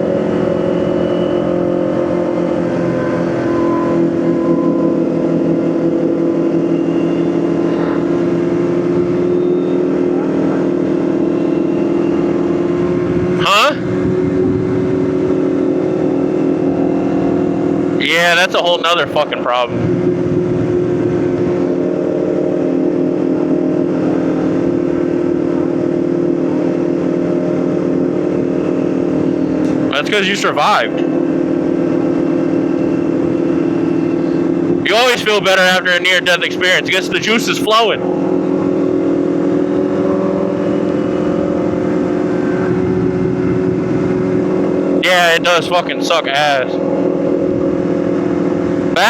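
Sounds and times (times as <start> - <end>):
motorcycle engine cruising: 0.0 - 49.0
road and wind noise: 0.0 - 49.0.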